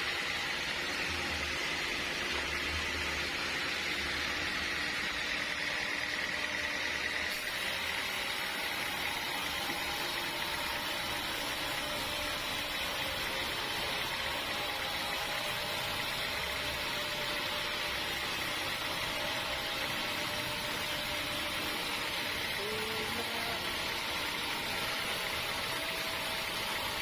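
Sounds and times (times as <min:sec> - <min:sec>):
sawmill machinery humming: 0:00.0 - 0:27.0.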